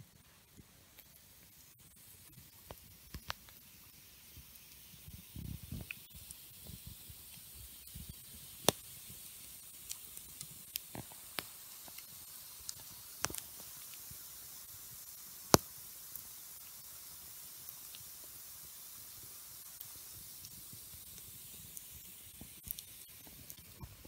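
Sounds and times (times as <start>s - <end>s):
campfire hissing: 0.0s - 24.0s
fire crackling pops: 0.5s - 24.0s.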